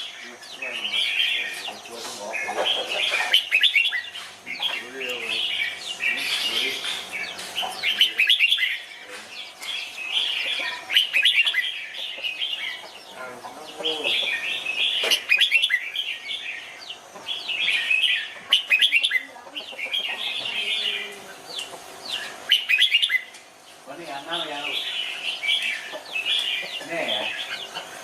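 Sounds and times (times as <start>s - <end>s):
birds singing chirpy phrases: 0.0s - 28.0s.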